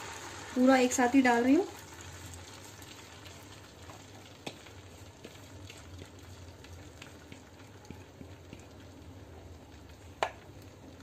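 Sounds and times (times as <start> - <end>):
hot oil sizzling: 0.0 - 11.0
sharp oil crackles: 0.0 - 11.0.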